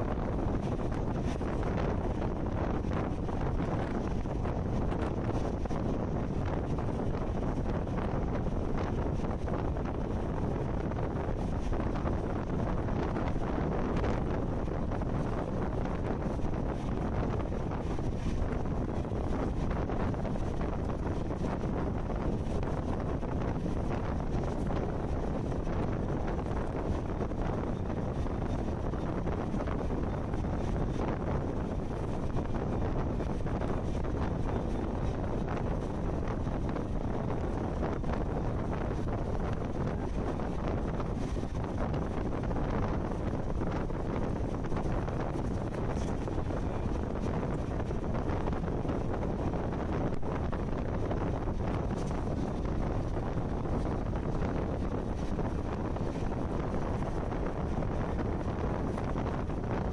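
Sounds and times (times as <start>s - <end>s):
train rumbling along track: 0.0s - 59.9s
wind buffeting the microphone: 0.0s - 59.9s.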